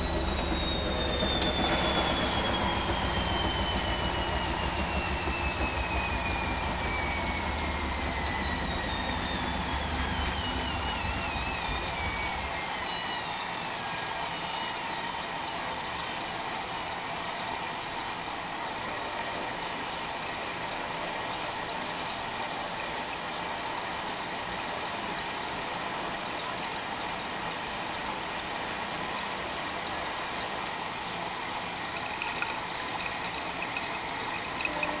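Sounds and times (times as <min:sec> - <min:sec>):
washing machine drum spinning down: 0:00.0 - 0:35.0.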